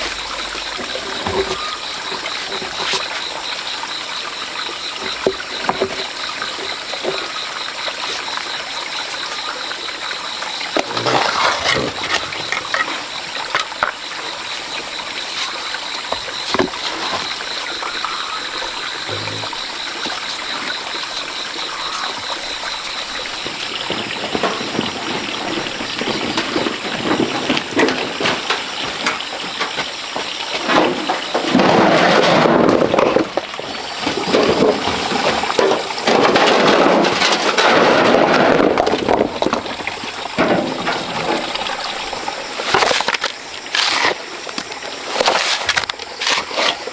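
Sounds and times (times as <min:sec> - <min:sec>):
water running: 0:00.0 - 0:46.9.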